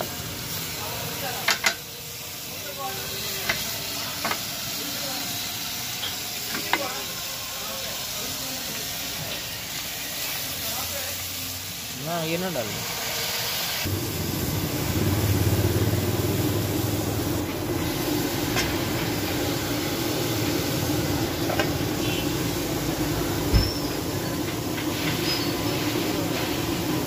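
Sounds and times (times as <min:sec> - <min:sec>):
food steam-frying hiss: 0:00.0 - 0:27.0.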